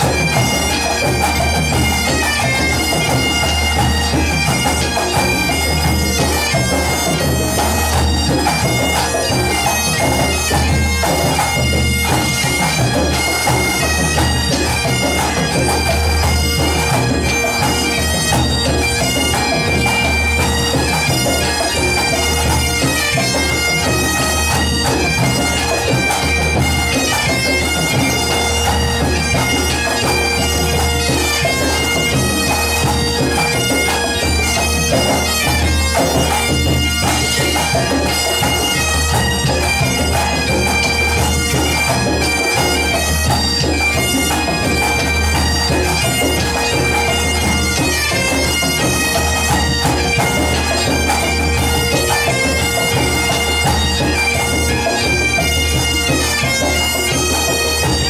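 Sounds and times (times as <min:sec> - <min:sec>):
bagpipes playing over drones: 0:00.0 - 0:58.0.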